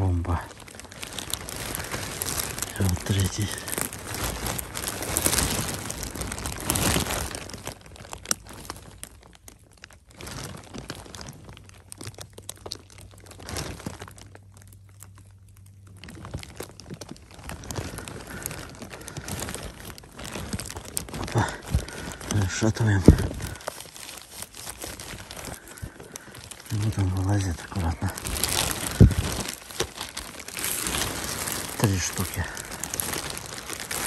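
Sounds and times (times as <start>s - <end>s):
pine needles crackling: 0.0s - 34.0s
plastic raincoat sleeve rustling: 0.0s - 34.0s.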